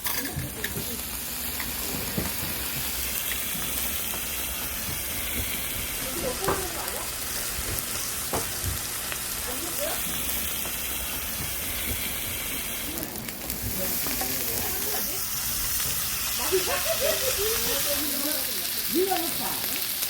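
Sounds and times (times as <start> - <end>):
pork sizzling on an iron griddle: 0.0 - 20.0.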